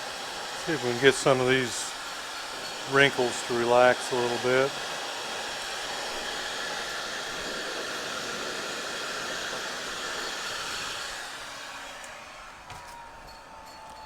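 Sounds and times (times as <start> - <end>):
hot-air blower hissing: 0.0 - 14.0.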